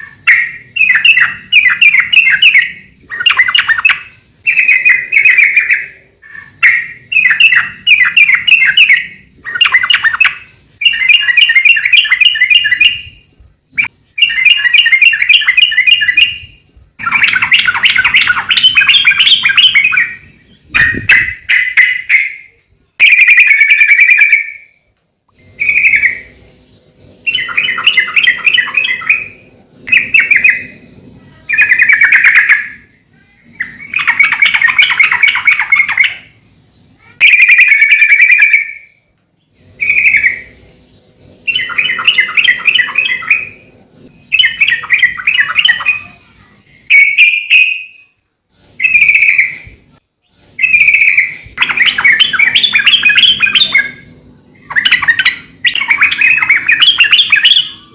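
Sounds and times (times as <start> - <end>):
bird singing chattering phrases: 0.0 - 24.7, 25.4 - 48.1, 48.7 - 57.9.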